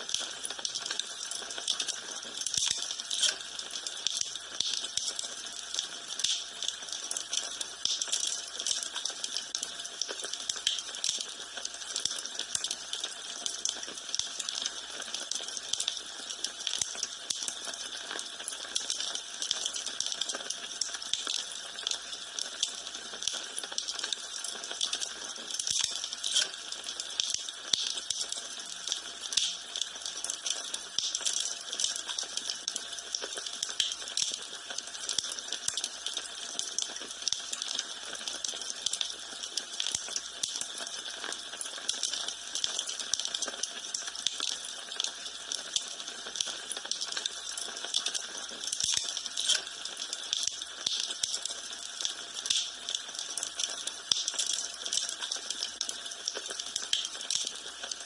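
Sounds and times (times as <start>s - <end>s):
wood fire crackling: 0.0s - 40.7s, 41.6s - 58.0s.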